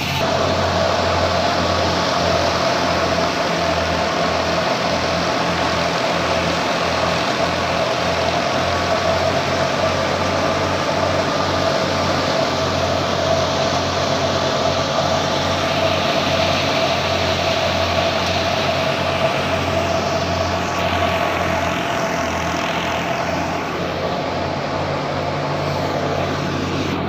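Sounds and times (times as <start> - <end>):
heavy engine running: 0.0 - 27.0
steady whine: 0.0 - 27.0.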